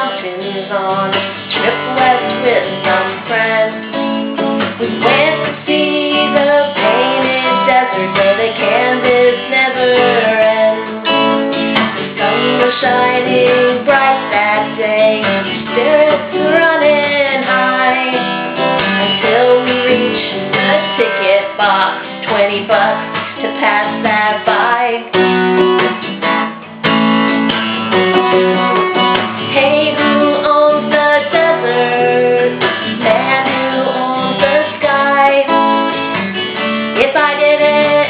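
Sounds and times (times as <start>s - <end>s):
woman singing wordless melody: 0.0s - 11.4s, 12.1s - 25.2s, 29.4s - 35.9s, 36.9s - 38.0s
acoustic guitar strumming: 0.0s - 38.0s.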